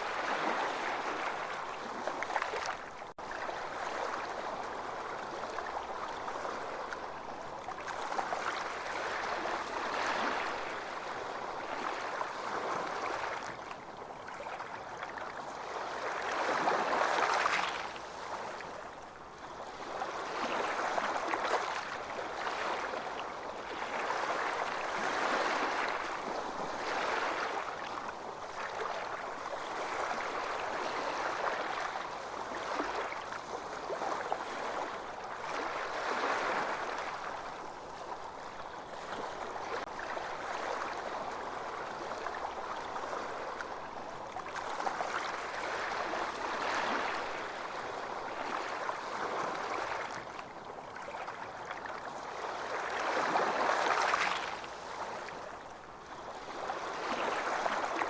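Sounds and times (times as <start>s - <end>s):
small waves washing onto beach: 0.0s - 58.0s.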